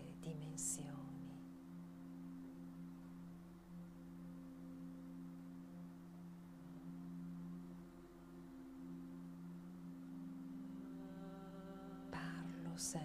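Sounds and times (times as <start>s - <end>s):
meditation music drone: 0.0s - 13.0s.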